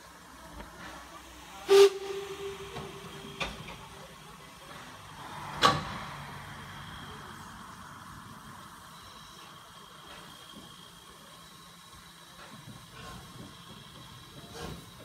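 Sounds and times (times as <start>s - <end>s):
steam hissing: 0.0s - 15.0s
loud steam bursts: 0.8s - 15.0s.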